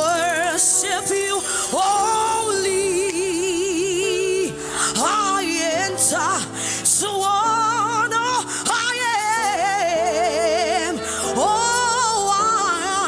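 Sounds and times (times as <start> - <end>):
solo voice singing with vibrato: 0.0 - 13.0.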